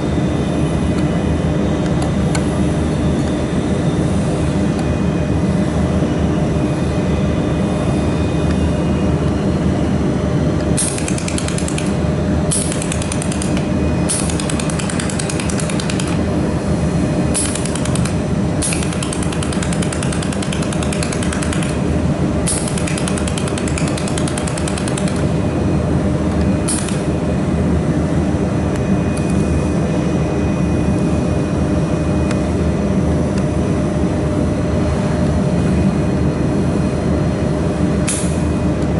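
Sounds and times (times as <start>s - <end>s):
machine steady hum: 0.0s - 38.9s.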